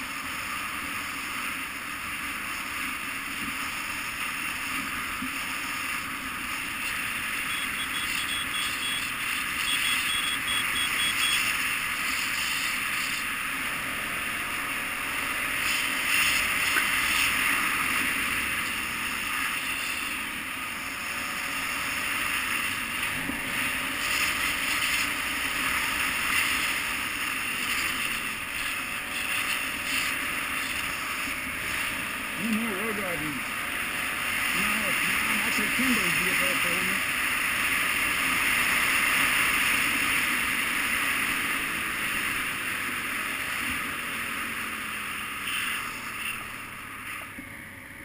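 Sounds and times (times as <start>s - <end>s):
motorcycle engine running: 0.0s - 48.0s
wind and road noise: 0.0s - 48.0s.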